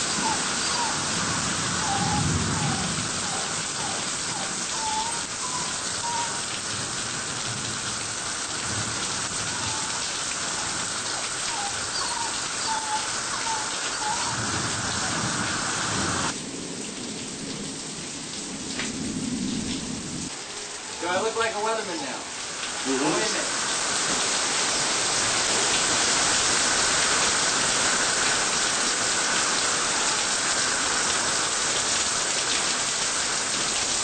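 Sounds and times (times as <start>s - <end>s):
hiss of rain and wind: 0.0s - 34.0s.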